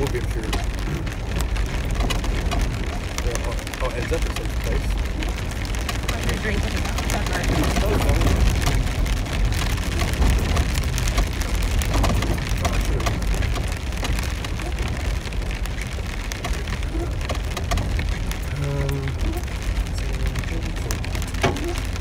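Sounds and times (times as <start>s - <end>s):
rain pattering on vehicle roof: 0.0s - 22.0s
vehicle rumbling on dirt road: 0.0s - 22.0s.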